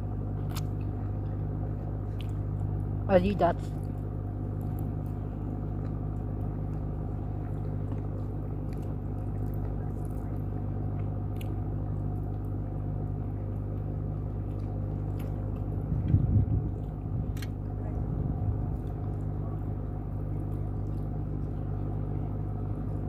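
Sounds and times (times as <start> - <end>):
chewing and biting: 0.0 - 3.0, 3.6 - 23.0
low rumble: 0.0 - 23.0
steady low hum: 0.0 - 23.0.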